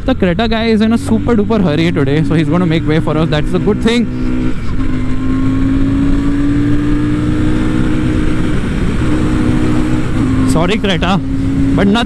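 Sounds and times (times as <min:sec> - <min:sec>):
motorcycle engine accelerating: 0:00.0 - 0:12.0
wind noise: 0:02.0 - 0:12.0.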